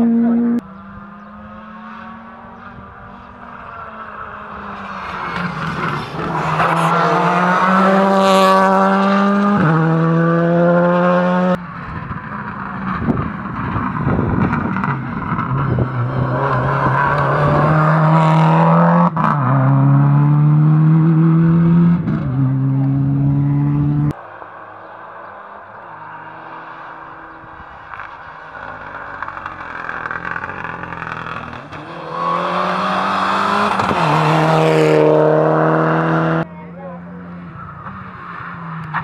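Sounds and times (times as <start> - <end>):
rally car engines at full throttle: 0.0 - 39.0.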